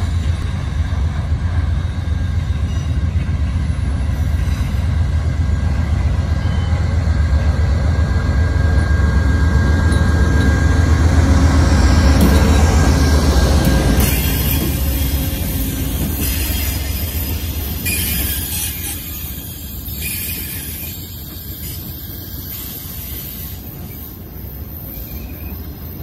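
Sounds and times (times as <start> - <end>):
diesel locomotive rumble: 0.0 - 26.0
train wheels running on rails: 0.0 - 26.0
train wheels squealing: 0.0 - 26.0.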